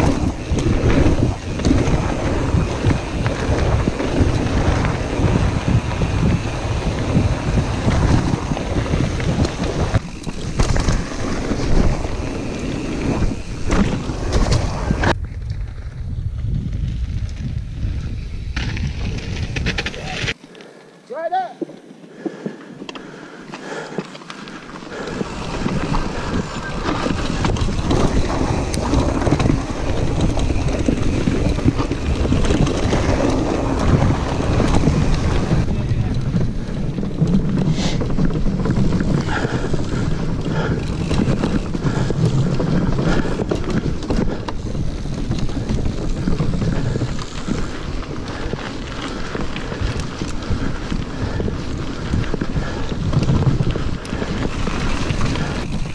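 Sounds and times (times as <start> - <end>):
bike rattling over rough trail: 0.0 - 20.4, 21.8 - 55.9
wind rushing over microphone: 0.0 - 20.4, 24.9 - 55.9.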